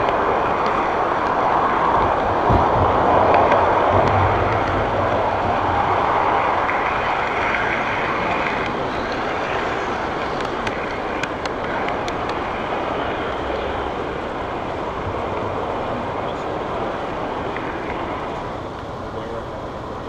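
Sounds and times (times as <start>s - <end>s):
model railway car rumbling: 0.0s - 20.0s.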